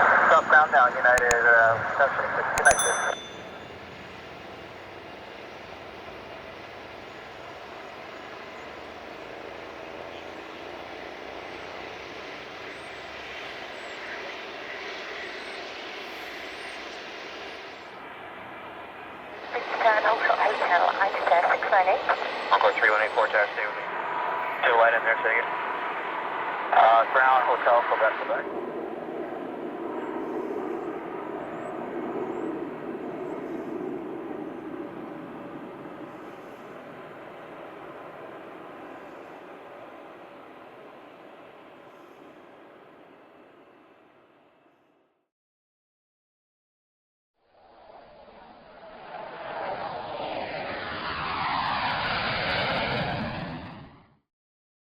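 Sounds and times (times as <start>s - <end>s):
jet engines rushing: 0.0s - 2.7s, 3.4s - 43.6s, 48.0s - 54.0s.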